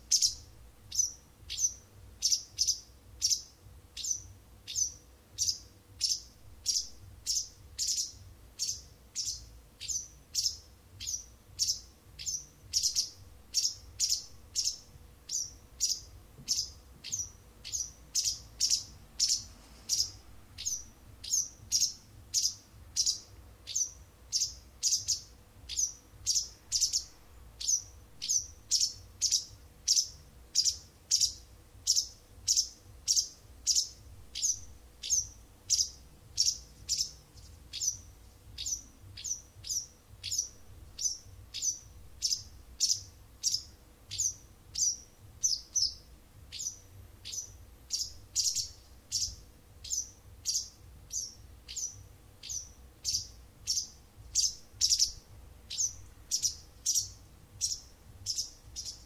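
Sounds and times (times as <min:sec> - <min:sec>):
wagtail chirping: 0:00.0 - 0:59.0.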